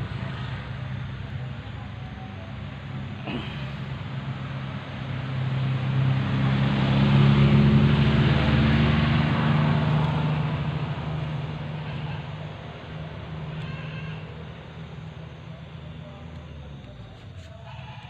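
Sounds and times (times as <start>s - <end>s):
vehicle driving past: 0.0s - 18.0s.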